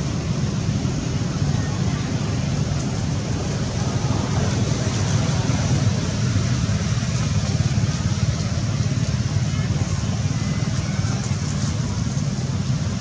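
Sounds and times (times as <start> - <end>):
steady low rumbling: 0.0 - 13.0.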